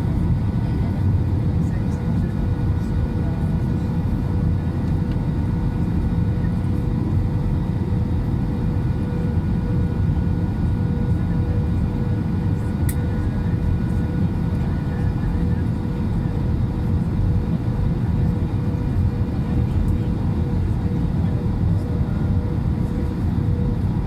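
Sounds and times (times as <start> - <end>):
airplane engines running: 0.0 - 24.0.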